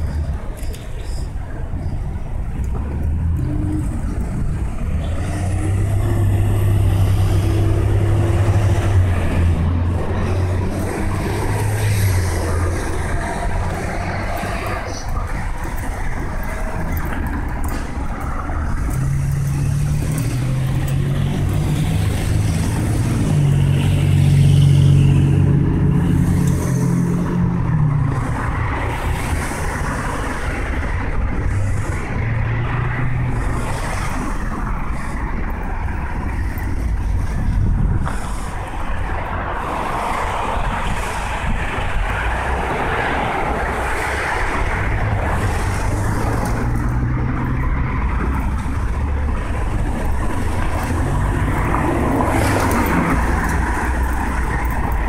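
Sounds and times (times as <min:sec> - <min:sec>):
cars passing: 0:00.0 - 0:55.0
road noise: 0:00.0 - 0:55.0.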